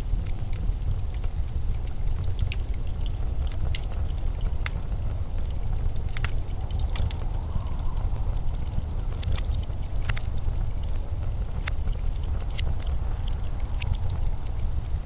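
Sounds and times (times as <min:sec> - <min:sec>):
blizzard wind rumbling and buffeting: 0:00.0 - 0:15.0
sharp ticks and clicks: 0:00.0 - 0:15.0.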